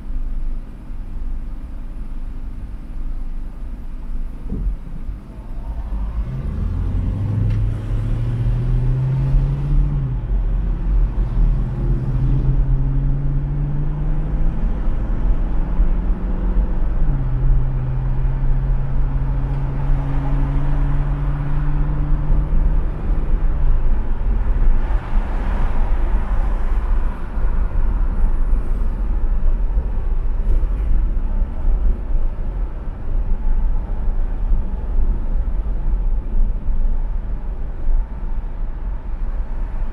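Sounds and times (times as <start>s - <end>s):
road noise rumble: 0.0s - 39.9s
car engine accelerating: 4.6s - 38.2s.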